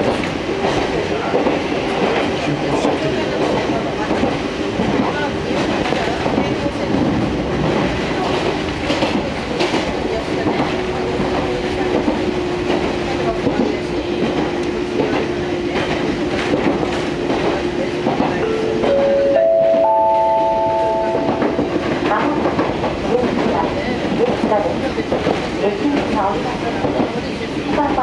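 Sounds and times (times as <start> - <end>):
clacking over rail joints: 0.0 - 19.0, 21.2 - 28.0
train wheels on rails: 0.0 - 28.0.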